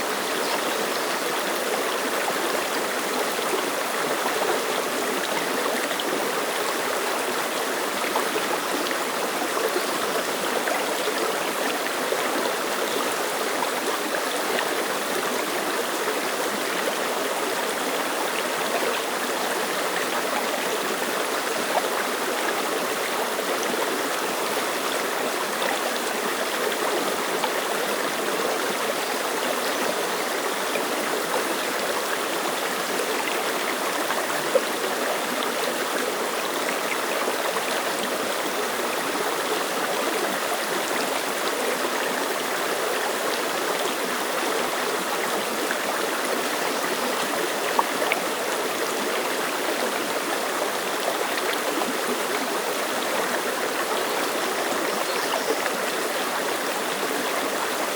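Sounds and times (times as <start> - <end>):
stream splashing over rocks: 0.0 - 57.9.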